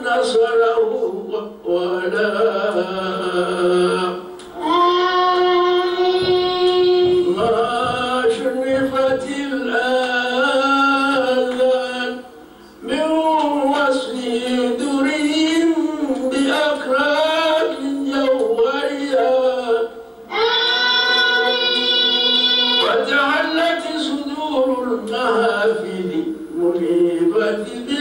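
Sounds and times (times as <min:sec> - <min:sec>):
person chanting a hymn: 0:00.0 - 0:28.0.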